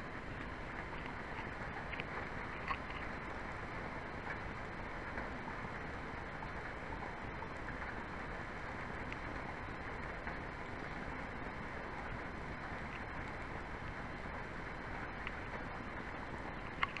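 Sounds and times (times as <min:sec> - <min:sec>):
faint ticks: 0:00.3 - 0:03.4, 0:05.1 - 0:14.1, 0:14.7 - 0:17.0.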